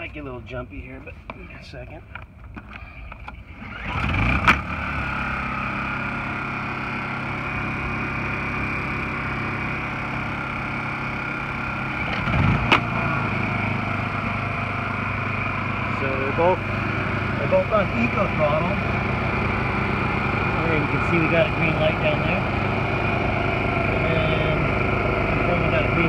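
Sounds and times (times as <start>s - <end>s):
generator engine running: 0.0s - 26.0s.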